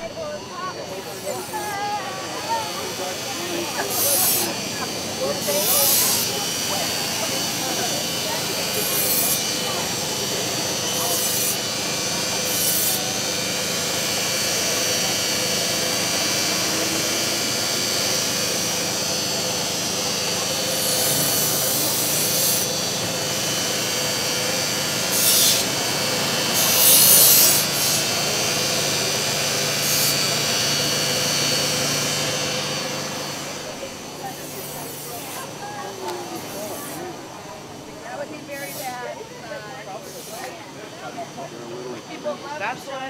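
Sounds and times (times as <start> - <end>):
blade grinding on wheel: 0.0 - 37.1
grinder whine: 0.0 - 43.0.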